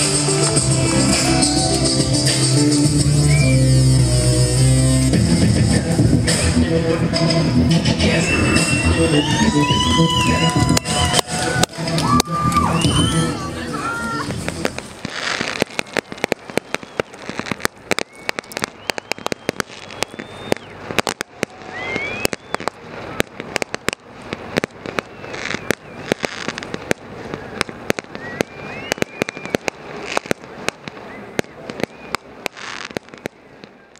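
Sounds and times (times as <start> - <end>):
rising firework whistles: 0.0 - 4.9, 7.8 - 33.9
fireworks bangs and crackles: 0.0 - 33.9.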